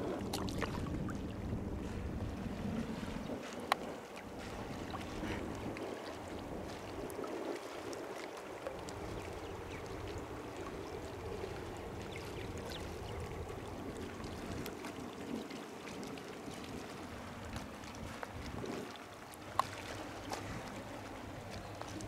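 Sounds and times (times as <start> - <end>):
water lapping: 0.0 - 22.0
water drips and ticks: 3.0 - 22.0.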